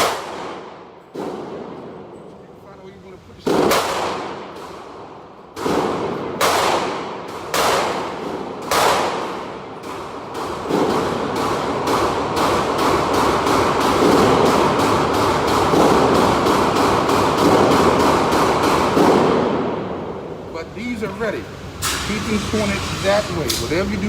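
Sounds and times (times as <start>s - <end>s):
gunshots with echo: 0.0s - 2.3s, 3.4s - 20.4s.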